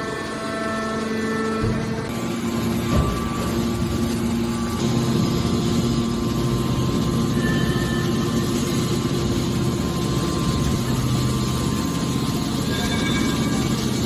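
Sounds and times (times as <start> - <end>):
baler machine droning: 0.0 - 14.0.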